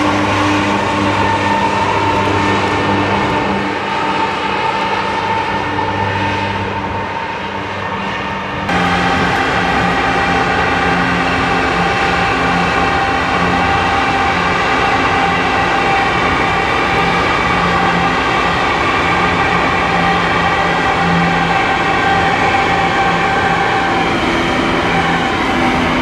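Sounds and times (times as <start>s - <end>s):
high whine: 0.0s - 26.0s
locomotive engine and wheel rumble: 0.0s - 26.0s.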